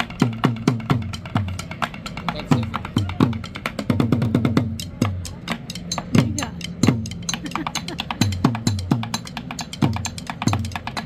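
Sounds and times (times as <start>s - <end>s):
deep percussion strokes: 0.0s - 11.0s.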